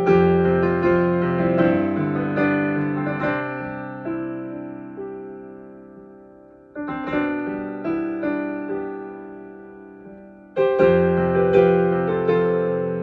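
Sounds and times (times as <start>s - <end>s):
slow improvised solo piano: 0.0s - 13.0s.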